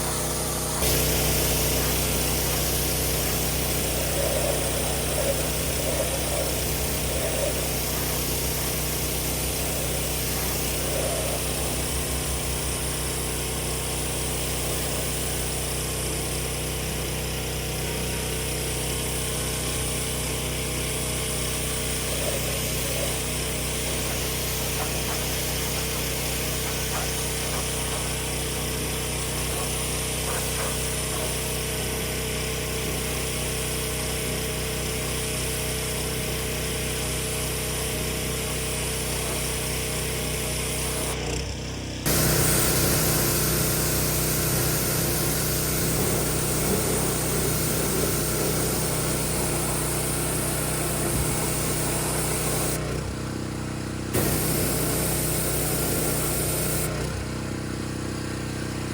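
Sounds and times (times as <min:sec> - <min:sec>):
water spraying with a hiss: 0:00.0 - 0:41.2, 0:42.1 - 0:52.9, 0:54.2 - 0:57.0
pressure washer engine hum: 0:00.0 - 0:58.9.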